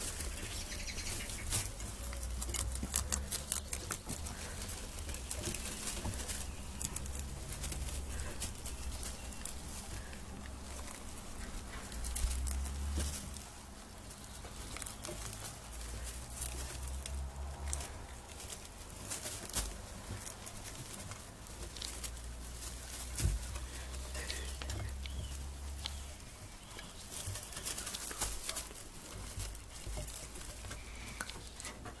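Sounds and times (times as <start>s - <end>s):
rabbits rustling in hutch: 0.0s - 32.0s.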